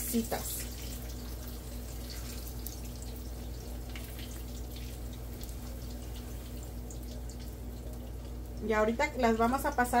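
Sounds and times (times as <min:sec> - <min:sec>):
tortillas sizzling in oil: 0:00.0 - 0:10.0.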